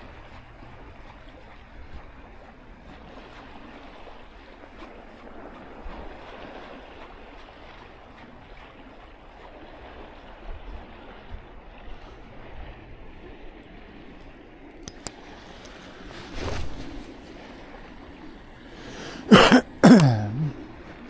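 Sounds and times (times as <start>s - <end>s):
wind rumble on microphone: 0.0s - 18.7s
waves lapping in shallow water: 0.0s - 21.0s.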